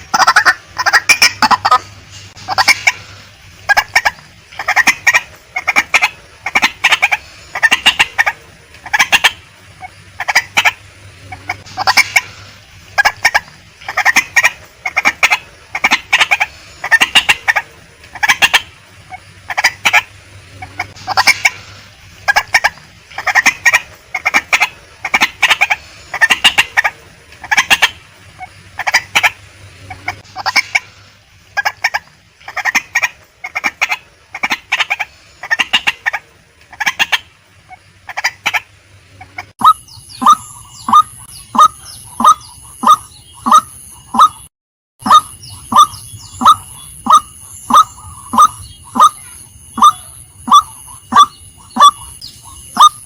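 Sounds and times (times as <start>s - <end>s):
waterhen harsh calls: 0.0s - 53.0s.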